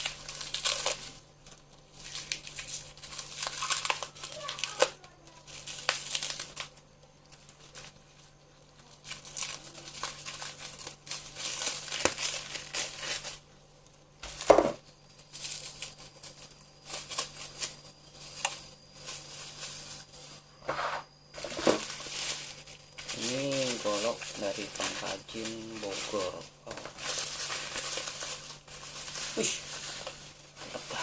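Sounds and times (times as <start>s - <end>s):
packaging crinkling and ripping: 0.0s - 20.5s, 21.4s - 31.0s.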